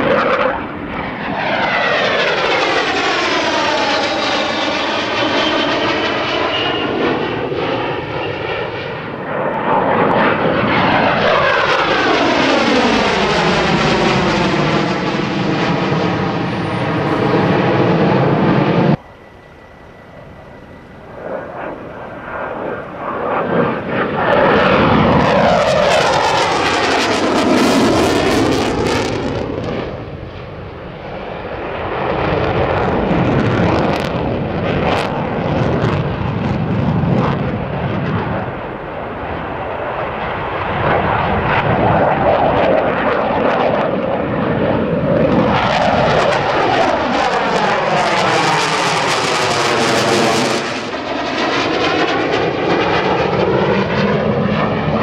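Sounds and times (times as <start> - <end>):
fighter jet flying past: 0.0 - 55.0.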